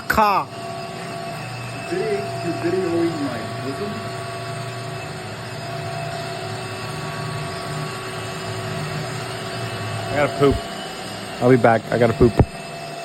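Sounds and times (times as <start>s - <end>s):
humming tones: 0.0s - 13.0s
mechanical drone: 0.0s - 13.0s.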